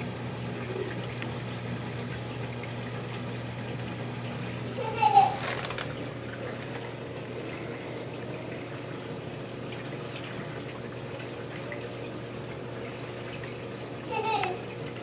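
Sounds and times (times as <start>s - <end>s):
aquarium water trickling: 0.0s - 15.0s.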